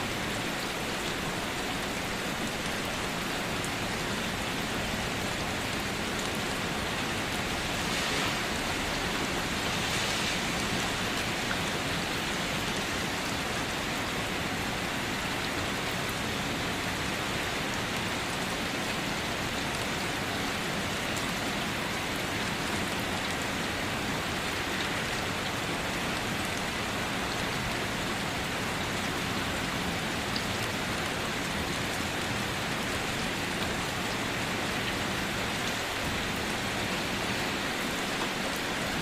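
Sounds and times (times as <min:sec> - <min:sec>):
rain falling on a car: 0:00.0 - 0:39.0.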